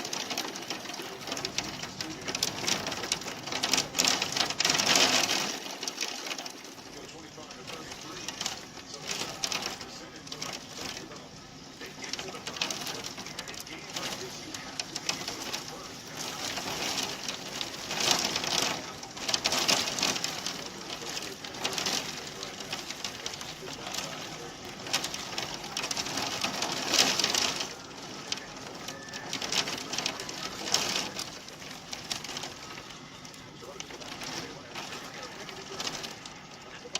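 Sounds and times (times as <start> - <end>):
hail pounding on a greenhouse: 0.0 - 36.9.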